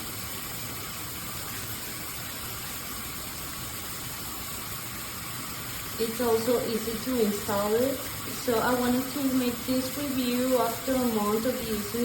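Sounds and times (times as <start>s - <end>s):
shower water spraying: 0.0s - 12.0s.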